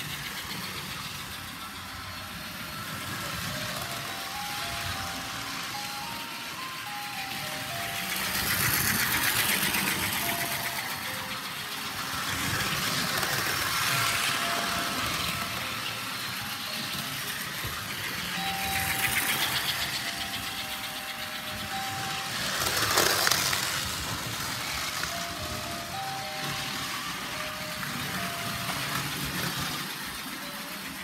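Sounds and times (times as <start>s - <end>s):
model train motors whirring: 0.0s - 31.0s
wheels rumbling on track: 0.0s - 31.0s.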